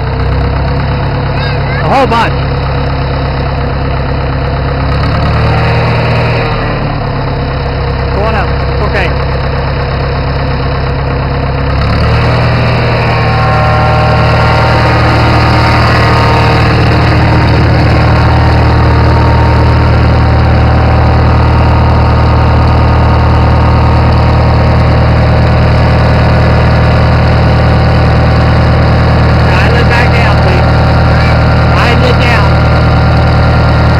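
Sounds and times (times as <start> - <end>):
engine knocking: 0.0 - 33.9
tractor engine running: 0.0 - 33.9.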